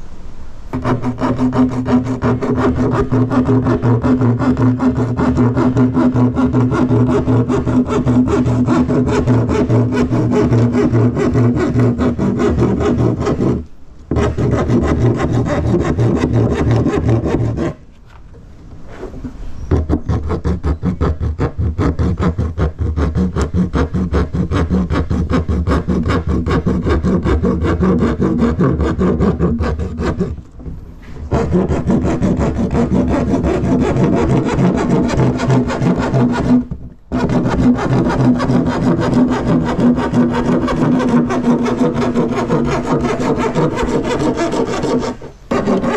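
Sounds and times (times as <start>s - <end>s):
hand saw cutting plastic: 0.7s - 17.8s, 19.7s - 45.9s.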